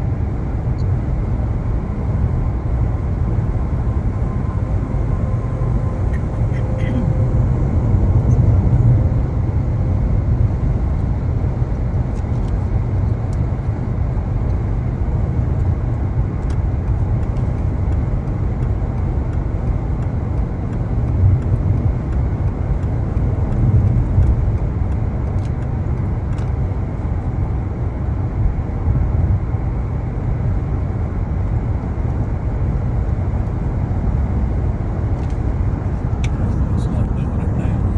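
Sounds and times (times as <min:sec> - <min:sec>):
road and tyre rumble: 0:00.0 - 0:37.9.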